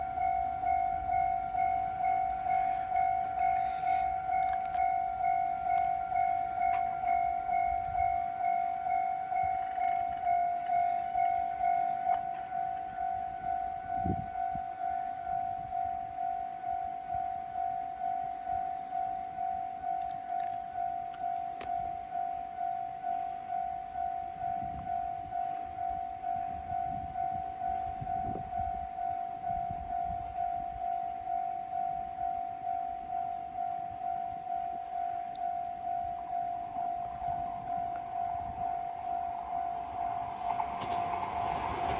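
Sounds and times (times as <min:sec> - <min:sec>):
level-crossing warning bell ringing: 0:00.0 - 0:41.9.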